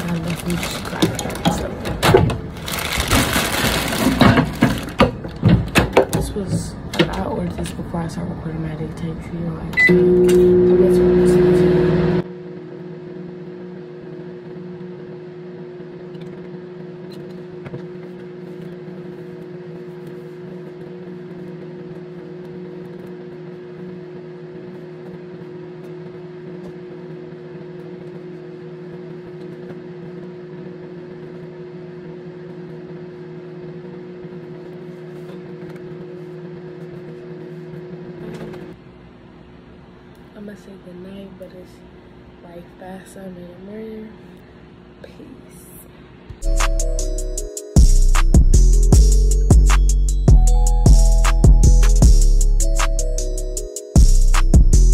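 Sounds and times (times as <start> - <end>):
appliance electrical hum: 0.0 - 54.9.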